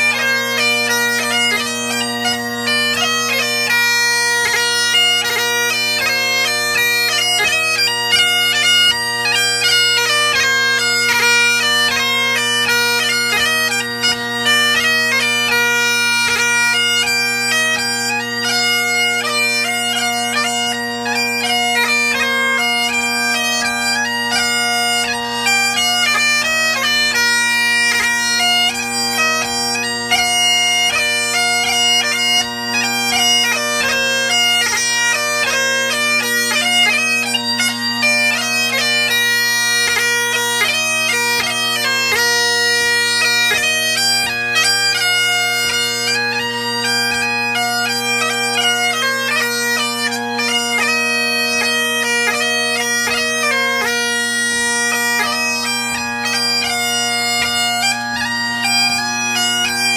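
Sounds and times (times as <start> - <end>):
bagpipe drones humming: 0.0 - 59.9
bagpipe tune: 0.0 - 59.9.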